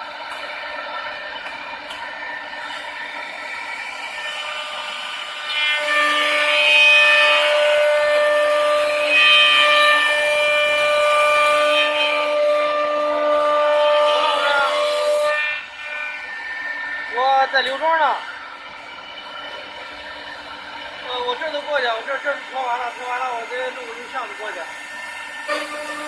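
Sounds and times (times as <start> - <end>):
wood router spindle whine: 0.0 - 26.0
cutter cutting wood: 1.4 - 26.0.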